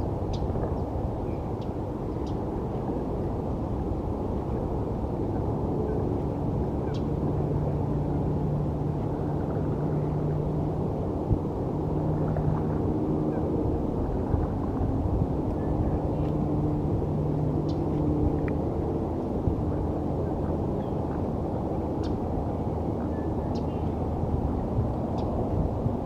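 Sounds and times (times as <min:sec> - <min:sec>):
distant city traffic rumble: 0:00.0 - 0:26.0
humming drone: 0:00.0 - 0:26.0.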